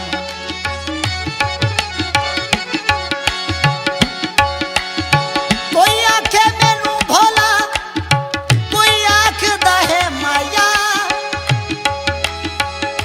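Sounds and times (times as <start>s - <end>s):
held instrumental notes: 0.0s - 13.0s.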